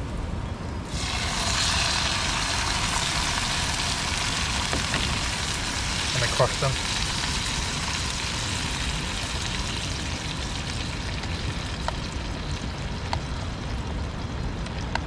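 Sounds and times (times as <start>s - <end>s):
food sizzling in a pan: 0.9s - 13.4s.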